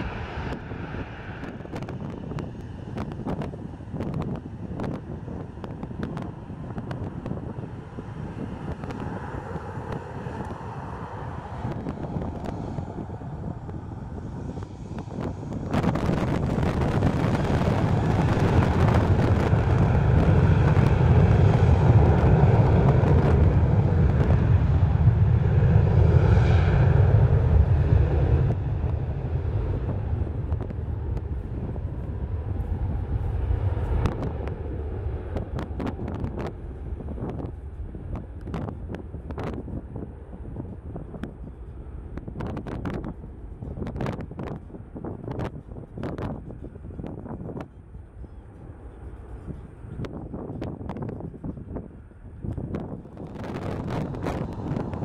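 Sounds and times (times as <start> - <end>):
jet engines rumbling: 0.0 - 55.0
wind buffeting microphone: 0.0 - 55.0.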